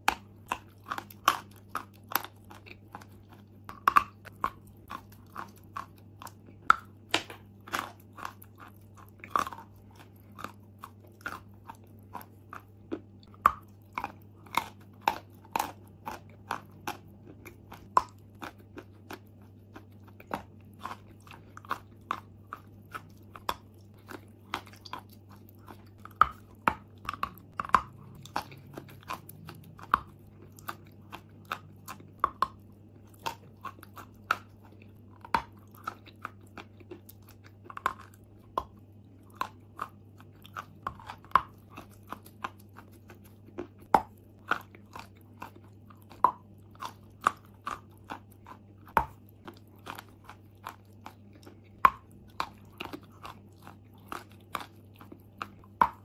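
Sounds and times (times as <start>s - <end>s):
chalk crunching when chewed: 0.0s - 56.0s.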